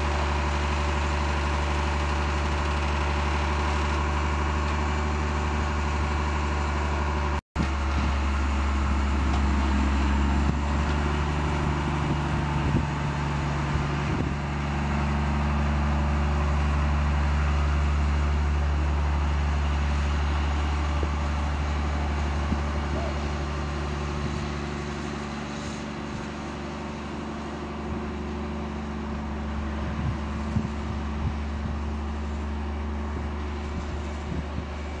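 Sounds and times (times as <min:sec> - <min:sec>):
railcar engine humming: 0:00.0 - 0:35.0.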